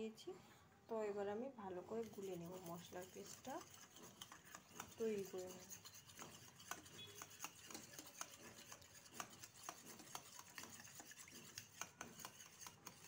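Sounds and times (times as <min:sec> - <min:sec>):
spoon scraping steel bowl: 0:01.7 - 0:13.0.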